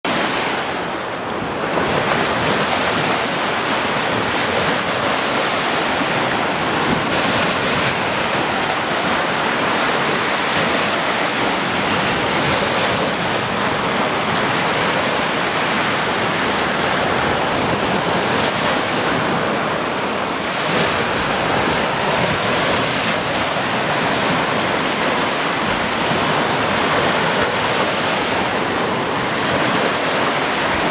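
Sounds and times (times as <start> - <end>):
ocean waves washing on shore: 0.1 - 30.9.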